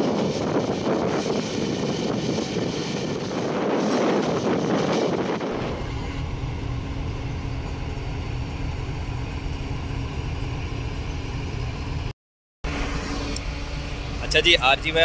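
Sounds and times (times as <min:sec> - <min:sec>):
moving goods train rattling: 0:00.0 - 0:12.1, 0:12.7 - 0:15.0
diesel locomotive idling: 0:00.0 - 0:15.0.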